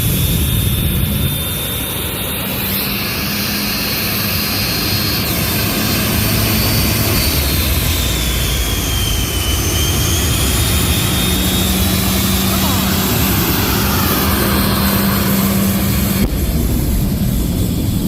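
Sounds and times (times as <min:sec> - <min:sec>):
high jet whine: 0:00.0 - 0:18.0
jet engine roaring: 0:00.0 - 0:18.0.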